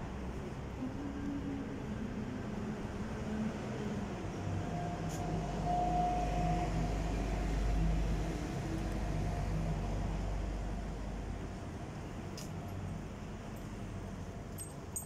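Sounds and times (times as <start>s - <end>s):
vehicle engine and tyre rumble: 0.0s - 15.0s.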